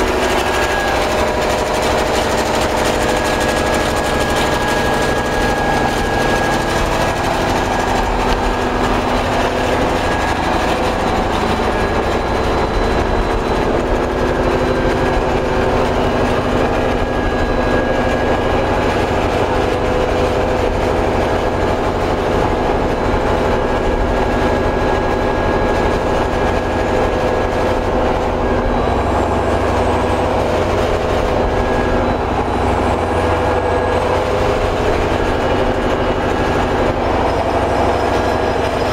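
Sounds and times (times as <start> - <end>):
engine generator running: 0.0 - 38.9.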